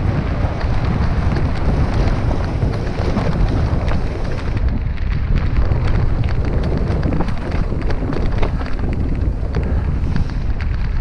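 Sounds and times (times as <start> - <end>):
bike rattling clicks and knocks: 0.0 - 11.0
tyres rolling rumble: 0.0 - 11.0
wind buffeting microphone: 0.0 - 11.0.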